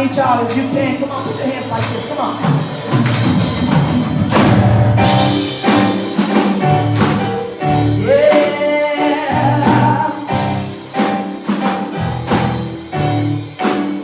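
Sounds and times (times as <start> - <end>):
band playing gospel music: 0.0 - 14.0.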